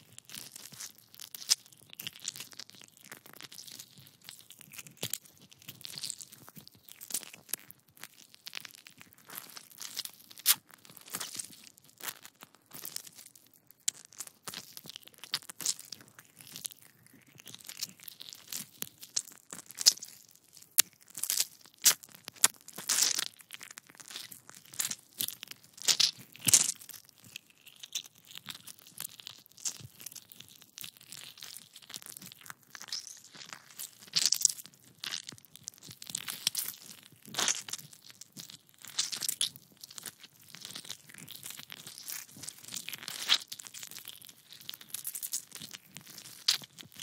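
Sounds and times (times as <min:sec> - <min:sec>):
wet crackles and tearing pops: 0:00.2 - 0:47.0.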